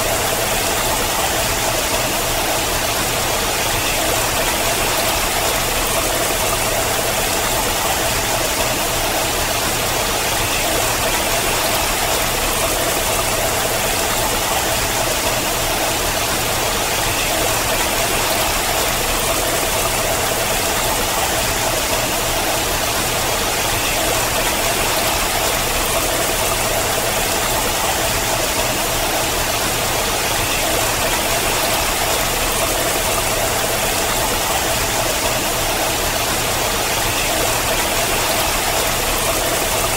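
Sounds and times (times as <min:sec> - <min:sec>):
water rushing down rock: 0:00.0 - 0:39.9.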